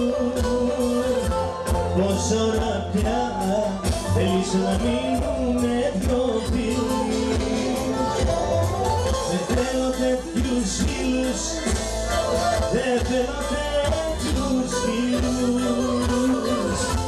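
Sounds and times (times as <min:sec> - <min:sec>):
live band accompaniment: 0:00.0 - 0:17.0
man and woman singing duet: 0:00.0 - 0:17.0.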